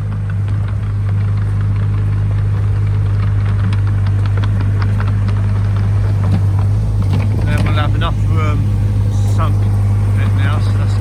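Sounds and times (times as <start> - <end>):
work machine engine humming: 0.0 - 11.0.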